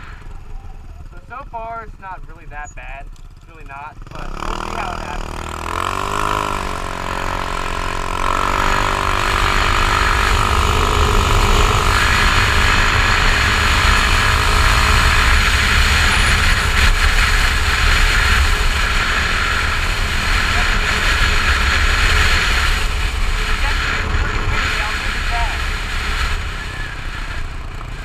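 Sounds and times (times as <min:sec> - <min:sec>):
scooter engine: 0:00.0 - 0:28.0.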